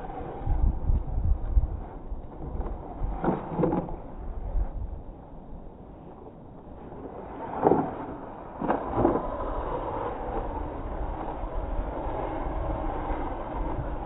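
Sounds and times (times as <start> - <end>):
wheels spraying sand: 0.0 - 4.9, 6.2 - 14.0.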